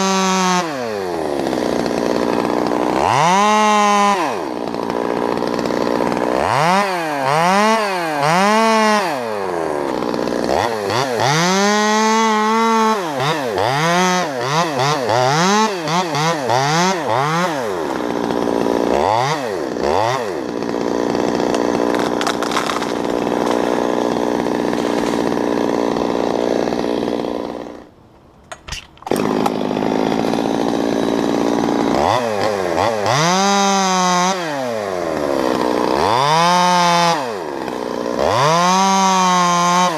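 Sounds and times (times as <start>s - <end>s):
chainsaw revving and cutting wood: 0.0s - 28.1s, 28.8s - 39.9s.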